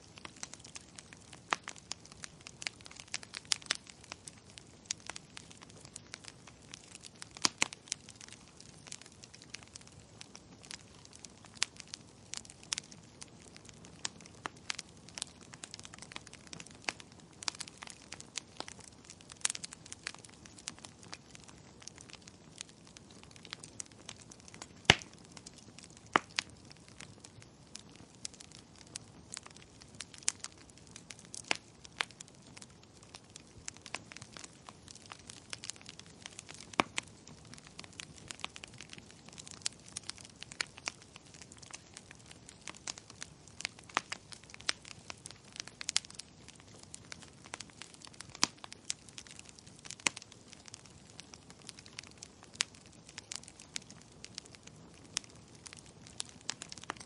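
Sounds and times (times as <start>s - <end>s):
soft steady hiss: 0.0s - 57.0s
wood fire pops and snaps: 0.0s - 57.0s.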